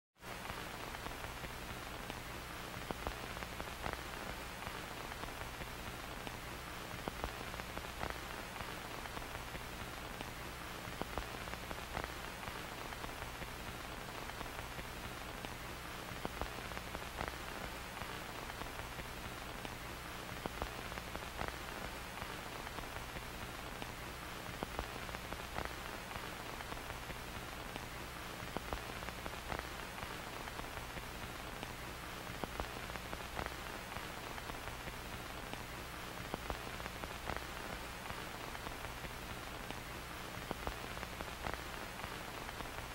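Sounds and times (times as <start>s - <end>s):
static hiss: 0.2s - 42.9s.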